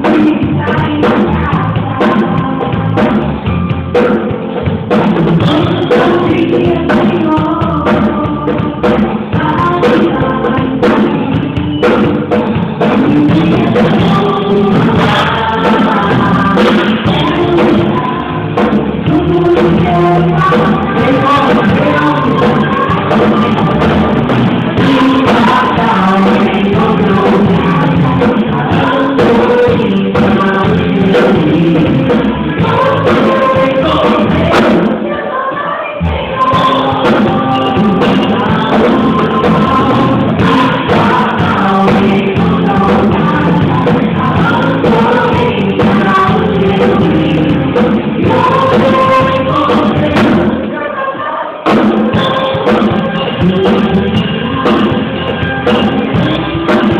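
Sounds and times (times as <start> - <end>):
band playing steady beat: 0.0 - 35.1, 36.0 - 50.7, 51.7 - 56.9
voices singing gospel song: 5.4 - 56.9.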